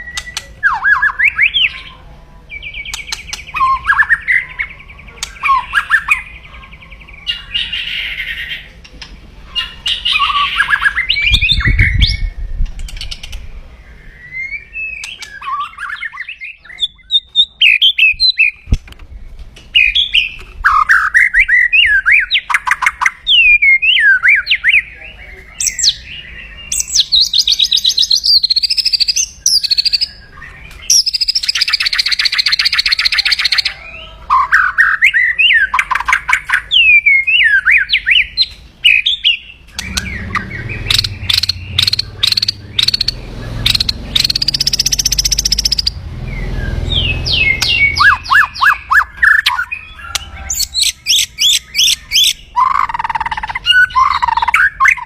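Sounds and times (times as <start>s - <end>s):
bird whistled song: 0.0s - 1.9s, 2.5s - 8.7s, 9.6s - 18.7s, 19.7s - 55.0s.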